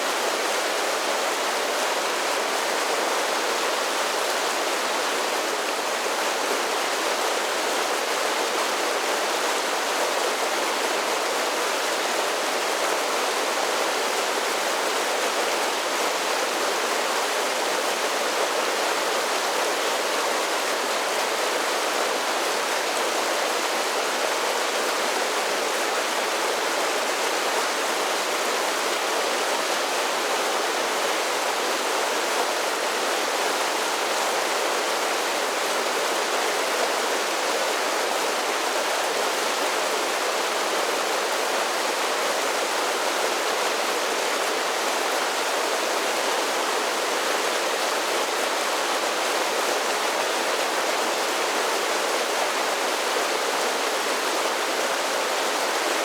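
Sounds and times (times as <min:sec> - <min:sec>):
creek water rushing over falls: 0:00.0 - 0:56.0.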